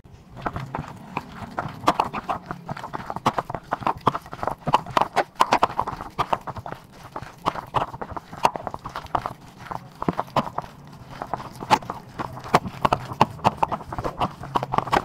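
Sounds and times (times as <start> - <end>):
hand kneading meat squishing: 0.3 - 15.0.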